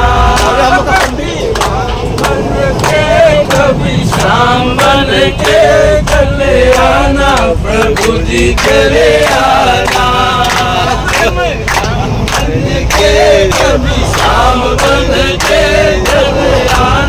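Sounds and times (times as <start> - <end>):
group singing a chant: 0.0 - 17.0
rhythmic hand claps: 0.0 - 17.0.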